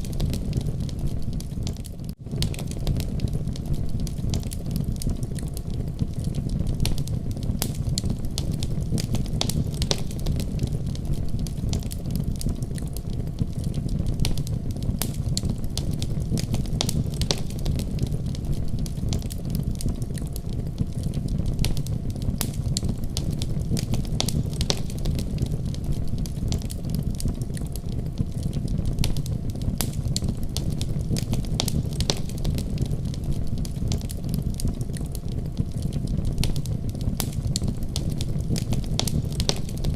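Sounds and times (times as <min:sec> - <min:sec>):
fire rumbling: 0:00.0 - 0:39.9
fire snaps and pops: 0:00.0 - 0:39.9.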